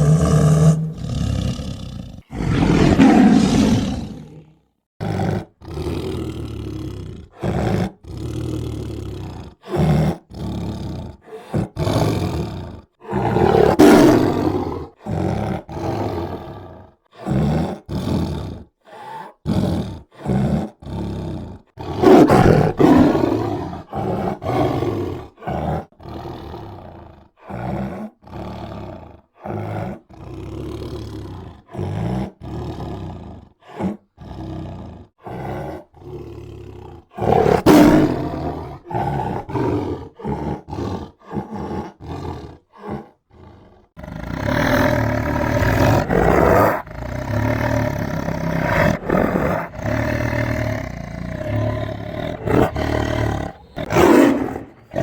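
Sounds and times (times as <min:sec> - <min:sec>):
tiger roaring: 0:00.0 - 0:55.0.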